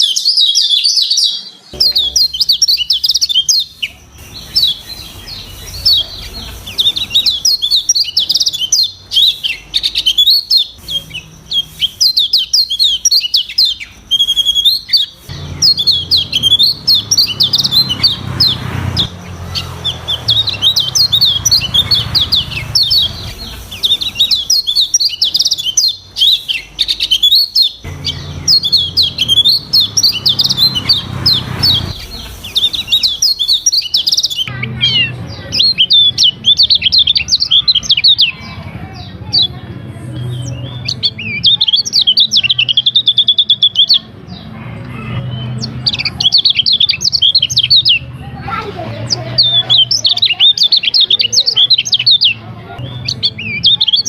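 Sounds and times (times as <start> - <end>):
bird singing rapid chirps and trills: 0.0 - 54.0.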